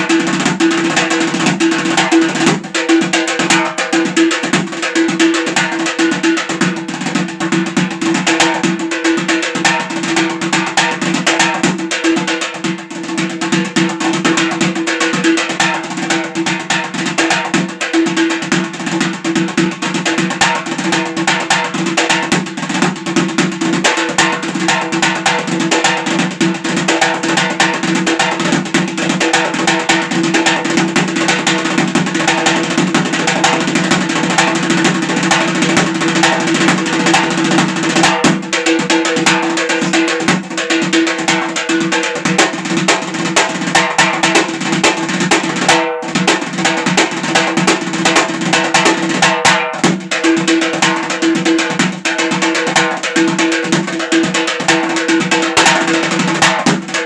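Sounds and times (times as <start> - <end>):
frame drum played by hand: 0.0 - 57.0.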